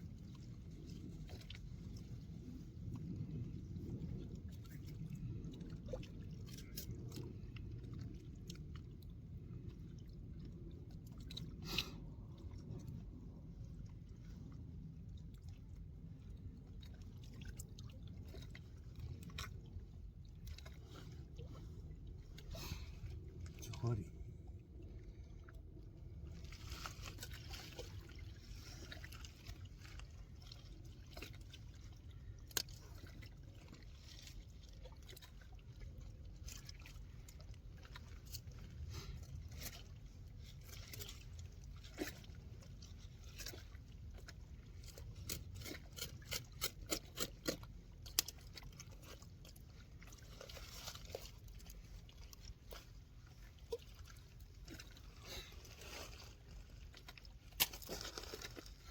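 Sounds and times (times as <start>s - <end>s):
water trickling and sloshing: 0.0s - 58.9s.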